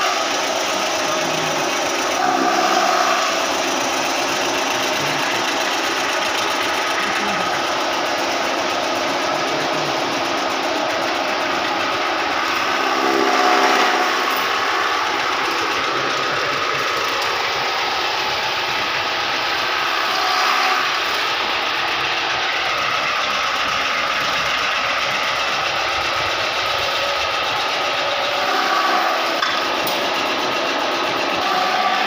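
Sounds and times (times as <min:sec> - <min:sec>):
chaff cutter chopping fodder: 0:00.0 - 0:25.6, 0:27.0 - 0:32.0.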